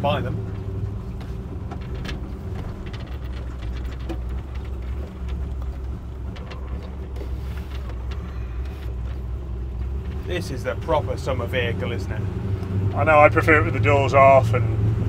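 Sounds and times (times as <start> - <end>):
engine deep low rumble: 0.0 - 15.0.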